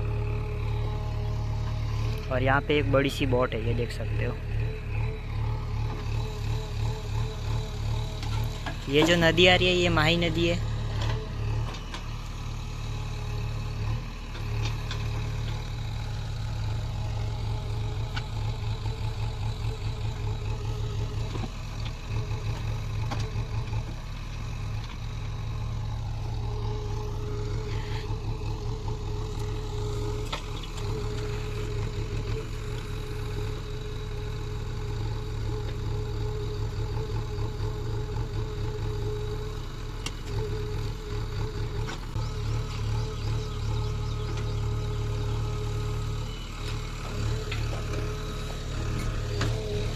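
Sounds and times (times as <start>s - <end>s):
heavy diesel engine throbbing: 0.0s - 49.9s.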